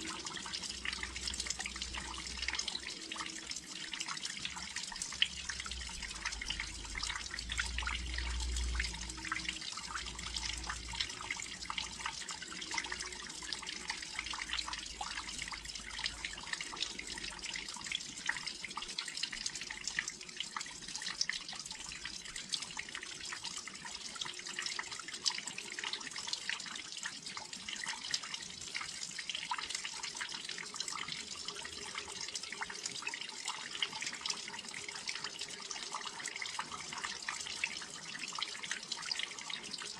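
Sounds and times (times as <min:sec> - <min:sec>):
rain dripping on a windowsill: 0:00.0 - 0:39.9.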